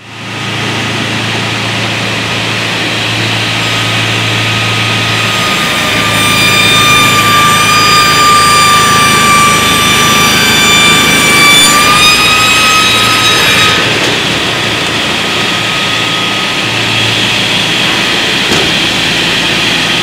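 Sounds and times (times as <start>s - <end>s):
table saw running: 0.0s - 20.0s.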